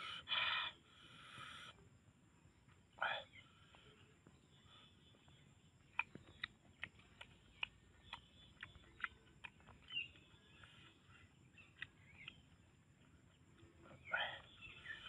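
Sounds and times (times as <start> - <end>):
bird chirps: 2.9 - 15.0.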